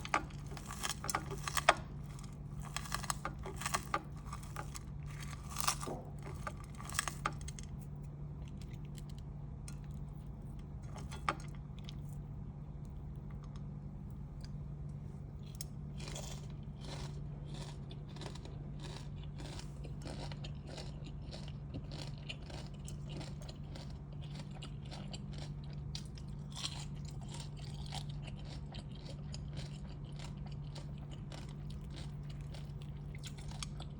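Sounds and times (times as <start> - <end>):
crunching and chewing food: 0.0 - 33.9
steady low hum: 0.0 - 33.9.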